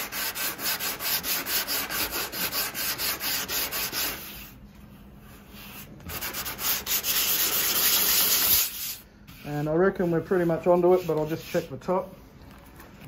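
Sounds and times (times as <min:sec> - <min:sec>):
sandpaper rubbing by hand: 0:00.0 - 0:04.5, 0:05.6 - 0:12.1.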